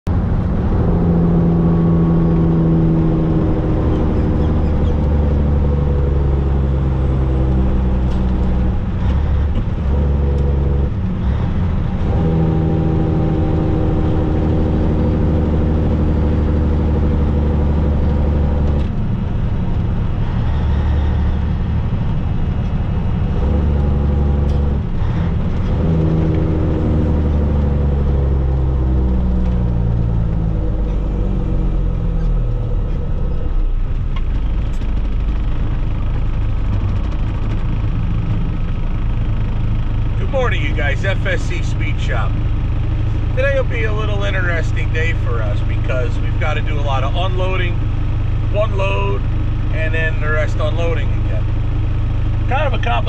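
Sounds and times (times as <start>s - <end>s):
diesel truck engine under load: 0.1s - 53.0s.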